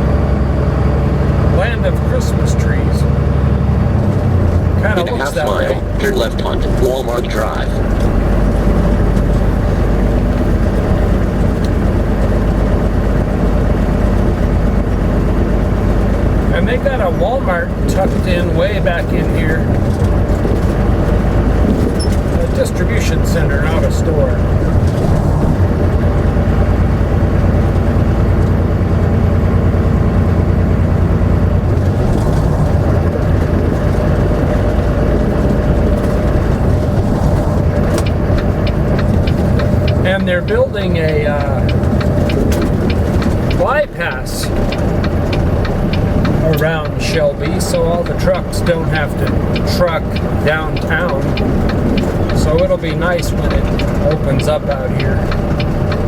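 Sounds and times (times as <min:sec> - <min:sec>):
truck engine and road rumble: 0:00.0 - 0:56.0.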